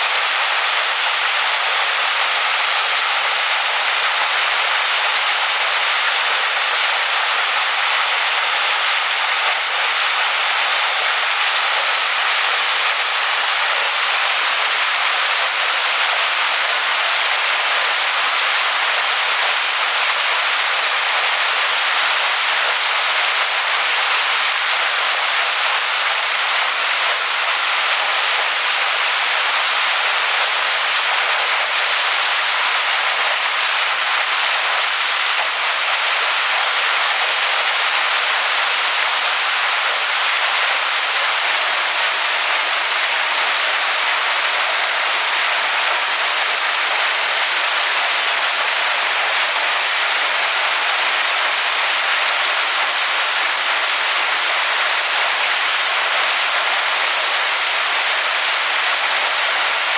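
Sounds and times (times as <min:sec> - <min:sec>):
waterfall pouring onto rocks: 0:00.0 - 0:59.9.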